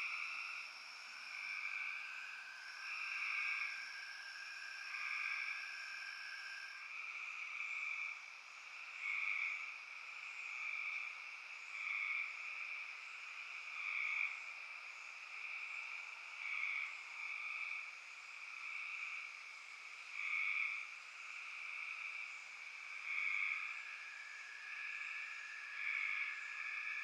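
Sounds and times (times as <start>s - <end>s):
frogs trilling: 0.0s - 27.0s.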